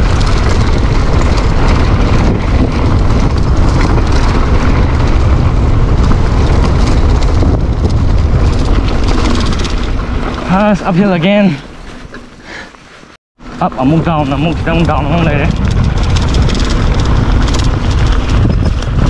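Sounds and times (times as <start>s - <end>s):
wind rush on microphone: 0.0s - 12.1s, 13.4s - 19.0s
bike tyres on dirt trail: 0.0s - 19.0s.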